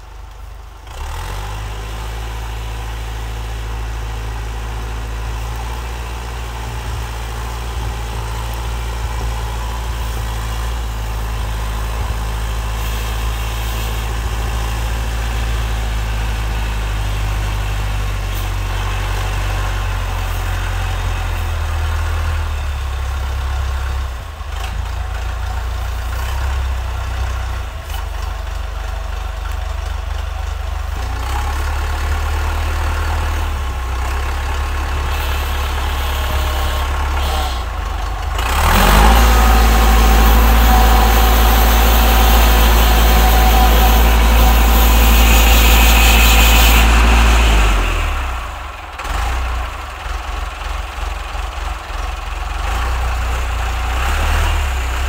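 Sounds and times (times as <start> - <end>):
diesel engine running and revving: 0.0 - 55.0.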